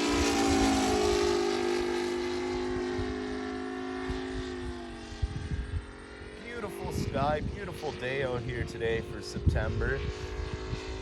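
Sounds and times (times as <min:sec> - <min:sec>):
model aircraft engine droning: 0:00.0 - 0:11.0.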